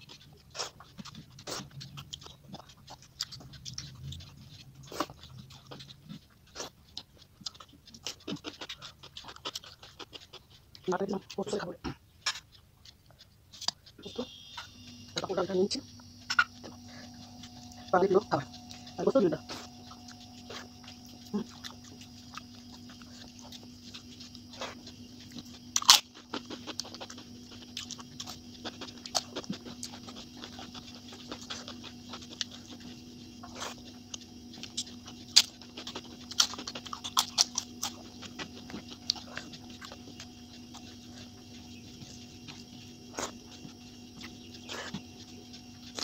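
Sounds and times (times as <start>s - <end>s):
chewing clicks and crunches: 0.0s - 46.0s
steady low hum: 0.0s - 46.0s.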